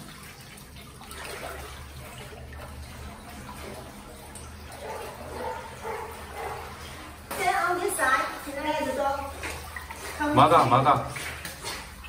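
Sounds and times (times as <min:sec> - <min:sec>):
pool water sloshing and splashing: 0:00.0 - 0:12.0
water dripping off dog: 0:00.0 - 0:12.0.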